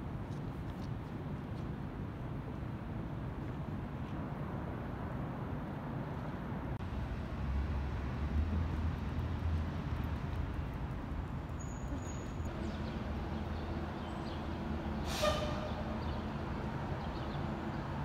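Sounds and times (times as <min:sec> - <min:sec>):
distant city traffic rumble: 0:00.0 - 0:18.0.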